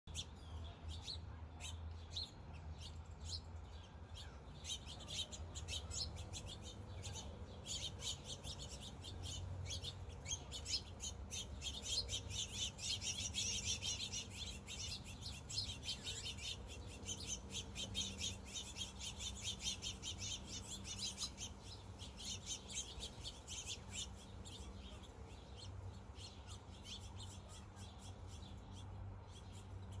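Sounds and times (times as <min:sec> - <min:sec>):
finches chirping: 0:00.1 - 0:30.0.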